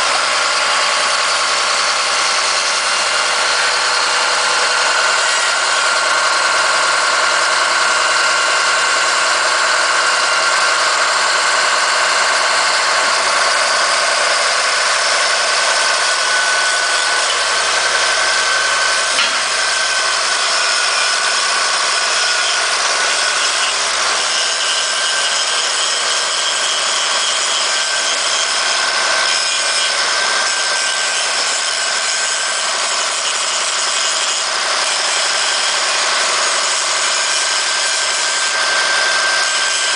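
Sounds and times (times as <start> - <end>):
bulldozer diesel engine running: 0.0 - 38.3.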